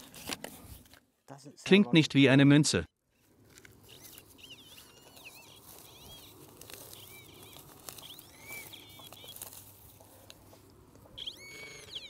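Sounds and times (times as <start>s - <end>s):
small birds chirping: 1.9s - 12.0s.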